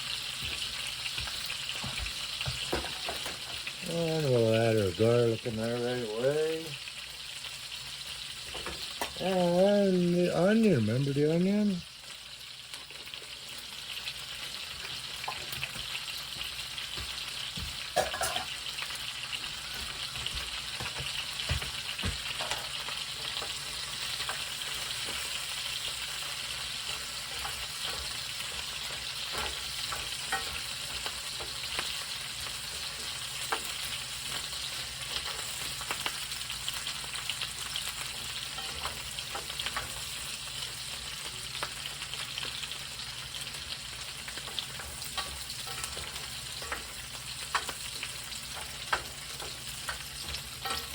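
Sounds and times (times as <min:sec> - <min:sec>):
vegetables sizzling in a frying pan: 0:00.0 - 0:50.9.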